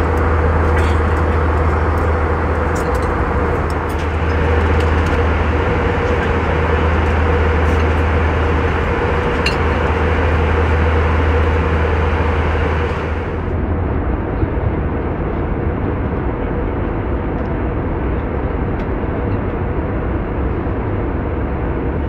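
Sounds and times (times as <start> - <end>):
airliner cabin engine roar: 0.0 - 22.0.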